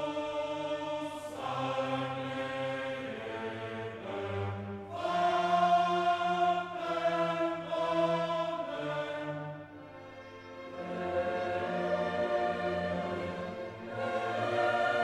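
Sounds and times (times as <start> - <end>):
slow music with long held notes: 0.0 - 15.0.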